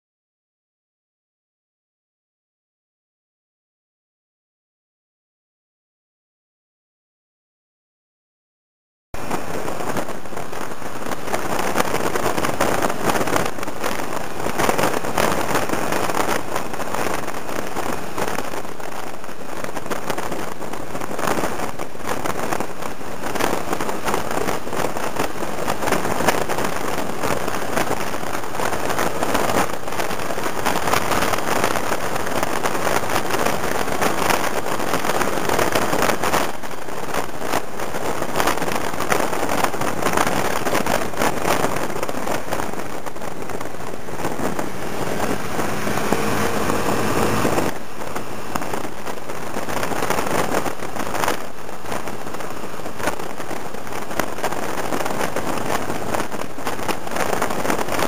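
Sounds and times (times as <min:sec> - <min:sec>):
motor scooter running: 0:09.2 - 0:58.0
wind buffeting microphone: 0:09.2 - 0:58.0.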